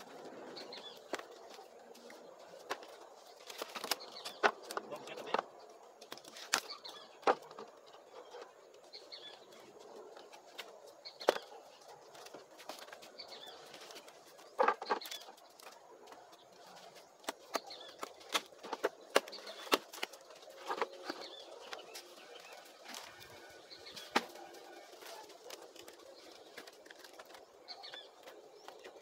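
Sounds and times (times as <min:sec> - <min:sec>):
birds chirping faintly: 0:00.0 - 0:29.0
wood pieces knocking and clattering: 0:00.1 - 0:08.4, 0:10.5 - 0:29.0.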